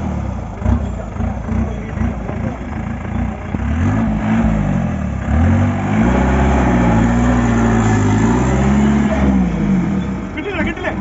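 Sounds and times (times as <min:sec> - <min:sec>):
jeep engine revving hard: 0:00.0 - 0:10.4.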